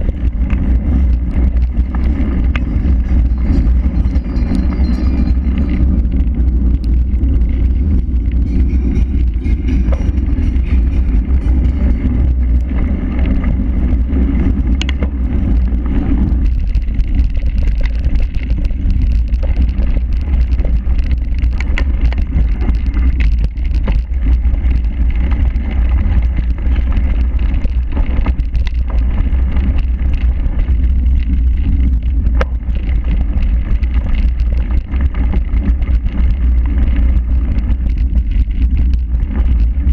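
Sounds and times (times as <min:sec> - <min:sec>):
bike knocks and rattles: 0:00.0 - 0:39.9
wind and rolling rumble: 0:00.0 - 0:39.9.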